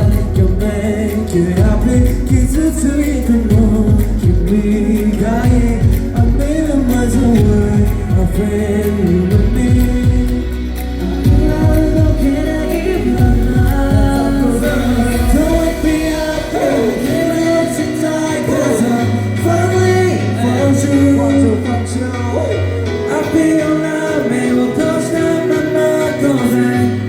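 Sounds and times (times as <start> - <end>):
person singing: 0.0 - 27.0
pop backing music with bass: 0.0 - 27.0.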